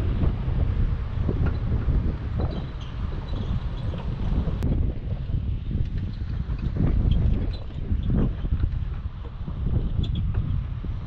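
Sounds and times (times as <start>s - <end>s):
truck rumble: 0.0s - 11.0s
wind buffeting microphone: 0.0s - 11.0s.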